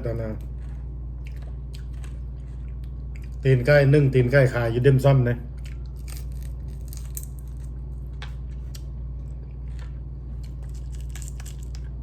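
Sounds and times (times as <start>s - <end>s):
steady low hum: 0.0s - 12.0s
chewing and crunching: 0.4s - 3.6s, 5.5s - 12.0s.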